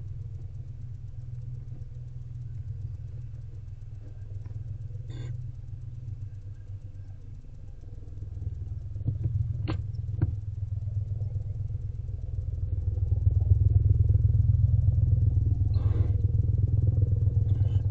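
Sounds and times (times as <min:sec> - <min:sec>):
low pulsing engine-like rumble: 0:00.0 - 0:17.9.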